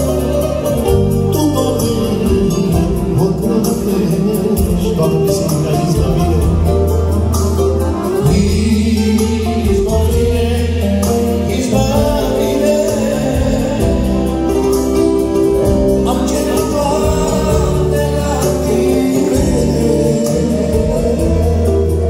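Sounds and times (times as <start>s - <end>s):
man singing: 0.0s - 7.3s, 7.9s - 22.0s
accordion: 0.0s - 22.0s.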